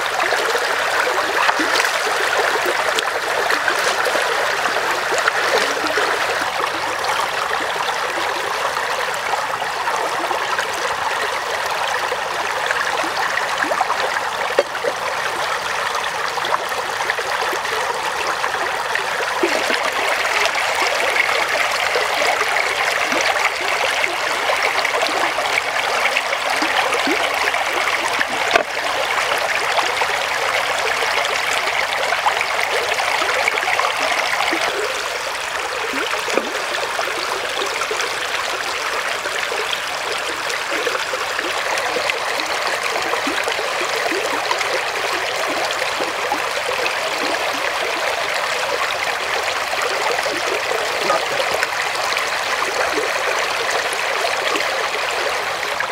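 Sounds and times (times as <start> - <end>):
stream splashing over rocks: 0.0 - 55.9.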